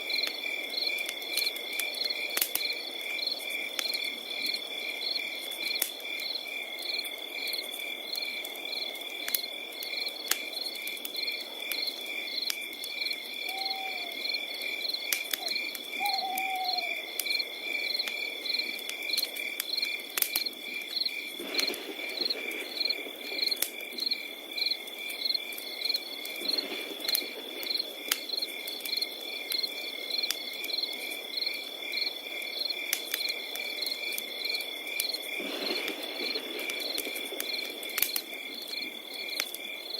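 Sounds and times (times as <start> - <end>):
crickets chirping: 0.0 - 39.9
wood fire crackling: 0.0 - 39.9.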